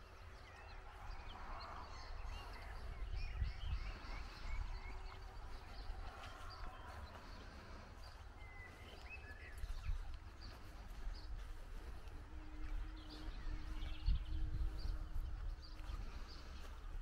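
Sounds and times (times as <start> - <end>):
small birds chirping: 0.0 - 17.0
wind rumble on microphone: 0.0 - 17.0.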